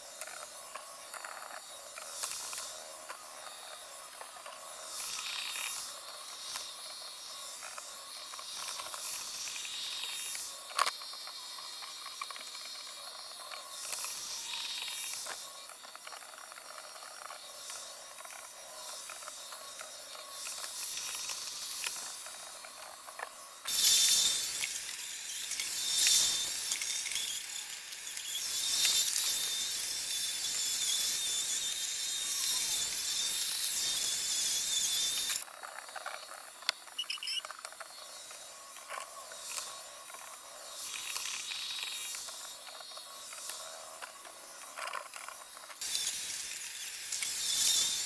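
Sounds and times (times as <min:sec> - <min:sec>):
robot vacuum hissing: 0:00.0 - 0:48.0.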